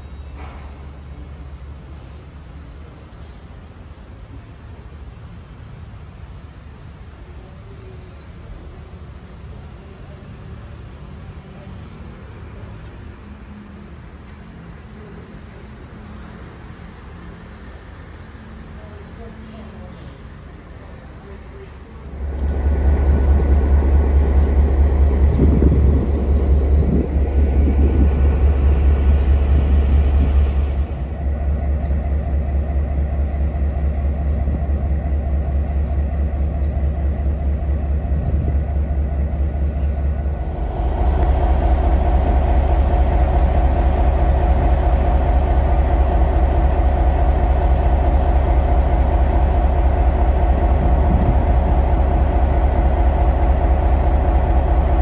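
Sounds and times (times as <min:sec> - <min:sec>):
locomotive diesel engine idling: 0:00.0 - 0:55.0.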